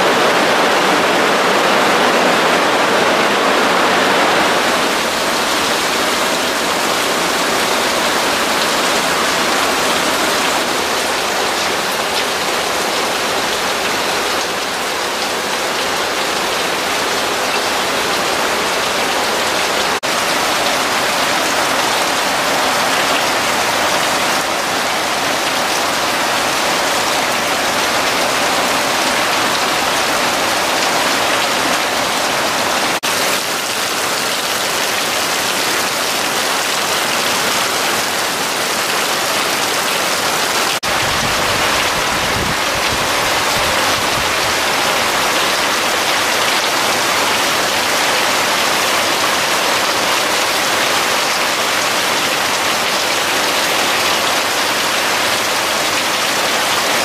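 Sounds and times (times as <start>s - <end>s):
heavy rain on leaves and roof: 0.0s - 57.0s.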